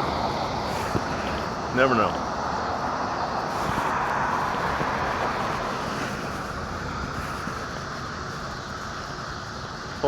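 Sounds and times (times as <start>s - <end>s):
rushing road noise: 0.0s - 10.0s.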